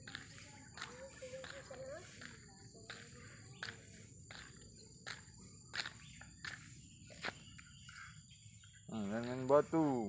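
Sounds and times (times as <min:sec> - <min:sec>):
footsteps on asphalt: 0:00.0 - 0:10.0
high-pitched insect trill: 0:00.0 - 0:10.0.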